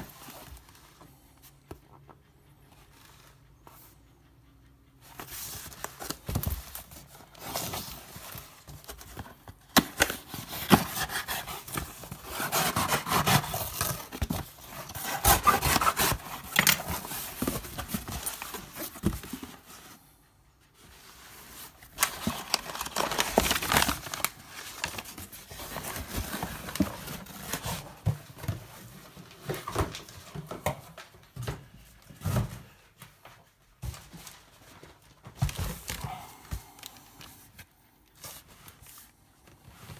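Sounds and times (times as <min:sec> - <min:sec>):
cardboard rustling and scraping: 0:05.0 - 0:20.0, 0:20.8 - 0:39.9.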